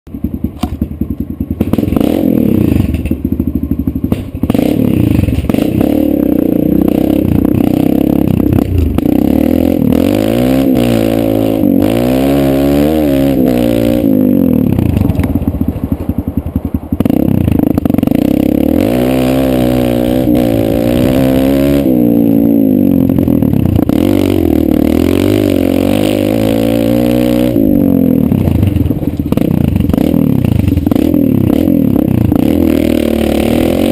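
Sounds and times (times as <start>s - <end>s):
dirt bike engine revving: 1.5s - 33.9s.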